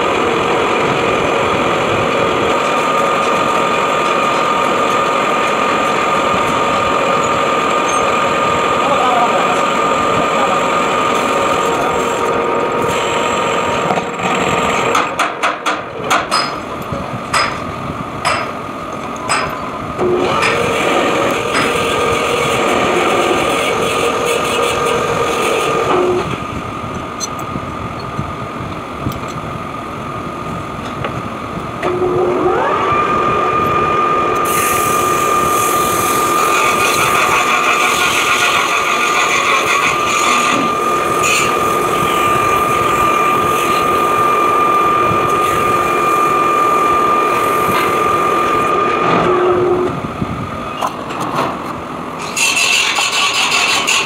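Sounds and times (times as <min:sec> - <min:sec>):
metal lathe whining: 0:00.0 - 0:15.0, 0:18.3 - 0:28.1, 0:31.8 - 0:50.0, 0:52.2 - 0:54.0.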